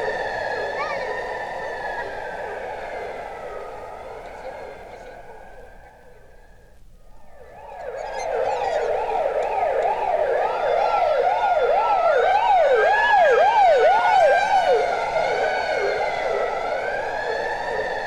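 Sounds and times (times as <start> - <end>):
fast sweeping siren: 0.0 - 6.2, 7.2 - 18.0
slow wailing siren: 0.0 - 18.0.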